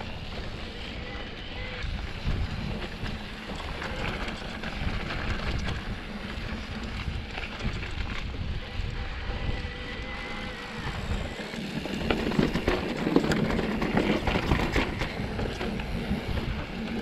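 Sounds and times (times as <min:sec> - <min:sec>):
bike rattling: 0:00.0 - 0:17.0
bike tyres rumbling: 0:00.0 - 0:17.0
wind buffeting microphone: 0:00.0 - 0:17.0.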